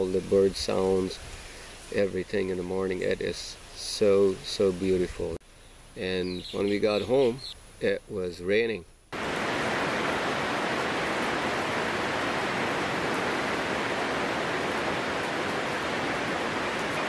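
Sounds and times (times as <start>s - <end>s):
rain falling steadily: 0.0s - 6.0s, 9.1s - 17.0s.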